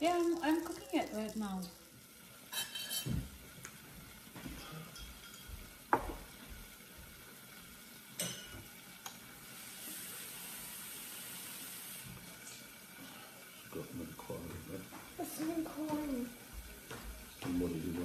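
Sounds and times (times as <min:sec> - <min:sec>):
meat sizzling on a grill plate: 0:00.0 - 0:18.0.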